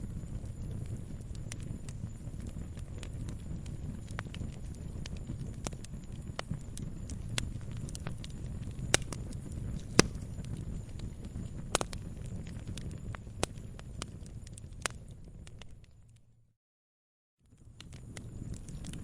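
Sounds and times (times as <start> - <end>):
burning wood crackling and popping: 0.0 - 16.2, 17.4 - 19.0
low rumble of flames: 0.0 - 16.5, 17.4 - 19.0.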